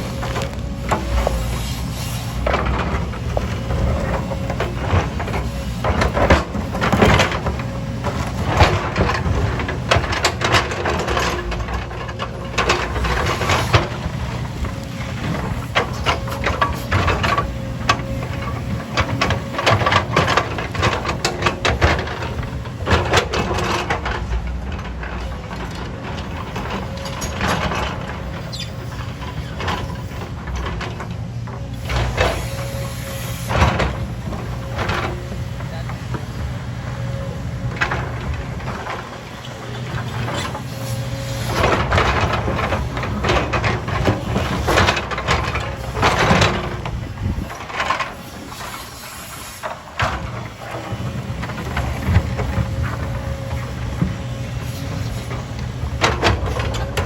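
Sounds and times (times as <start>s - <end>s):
heavy diesel engine running: 0.0s - 57.0s
metal clanks and knocks: 2.3s - 57.0s.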